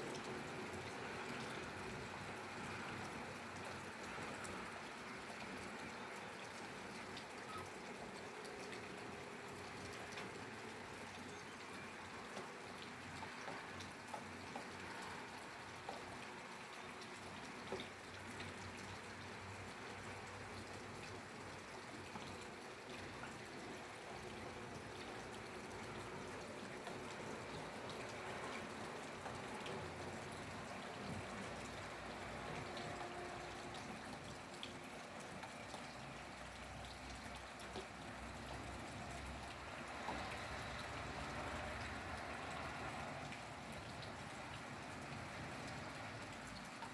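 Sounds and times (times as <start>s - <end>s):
steady rain hiss: 0.0s - 46.9s
raindrops ticking: 3.0s - 46.9s.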